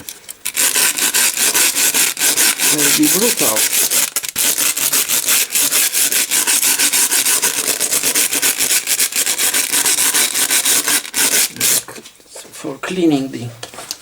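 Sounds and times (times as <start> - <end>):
wire brush scraping circuit board: 0.5 - 11.9.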